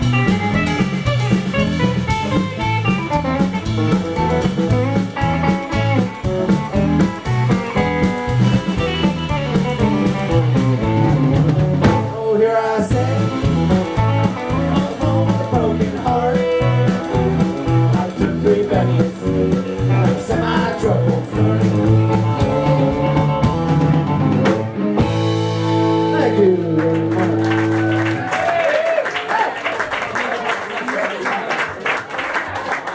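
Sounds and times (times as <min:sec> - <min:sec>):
electric guitar: 0:00.0 - 0:28.6
live band playing: 0:00.0 - 0:28.6.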